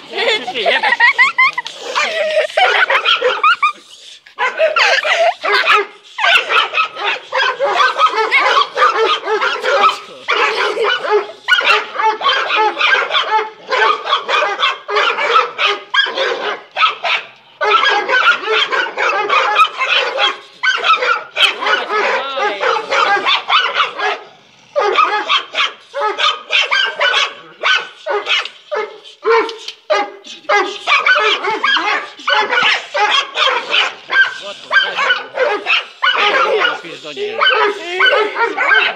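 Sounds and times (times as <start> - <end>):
dogs barking and yelping: 0.0 - 38.9.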